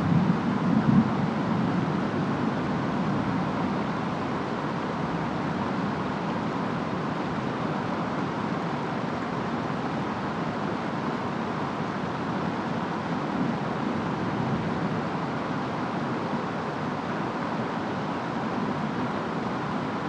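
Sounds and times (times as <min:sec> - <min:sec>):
rain: 0:00.0 - 0:20.0
wind: 0:00.0 - 0:20.0.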